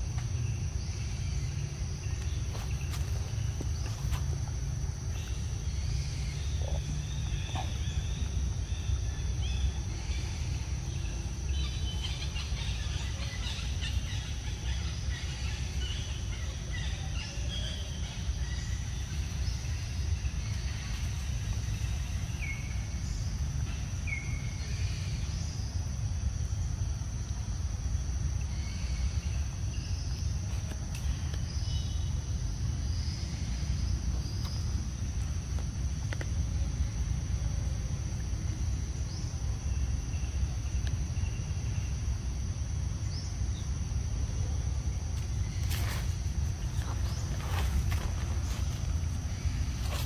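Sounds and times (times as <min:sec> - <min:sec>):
high insect drone: 0:00.0 - 0:50.0.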